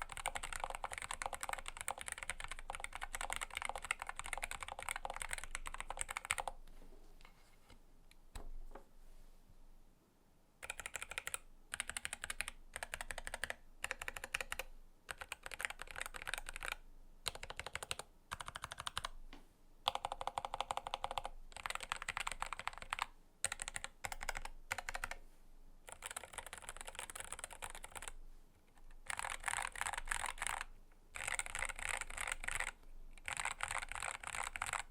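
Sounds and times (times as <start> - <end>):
mechanical keyboard typing: 0.0 - 6.6, 10.6 - 19.2, 19.8 - 25.2, 25.9 - 28.2, 29.0 - 34.9.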